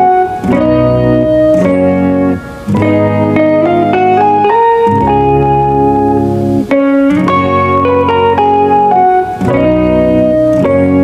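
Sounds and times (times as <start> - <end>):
bass line: 0.0 - 11.0
plucked guitar: 0.0 - 11.0.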